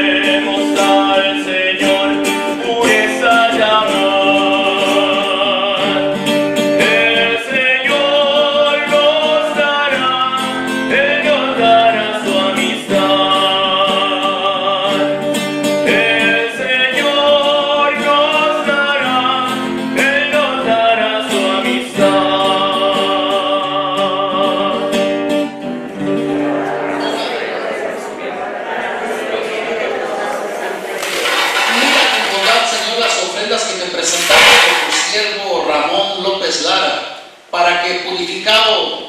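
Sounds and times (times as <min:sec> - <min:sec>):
guitar accompaniment: 0:00.0 - 0:27.9, 0:30.7 - 0:35.4
hymn singing: 0:00.0 - 0:35.8.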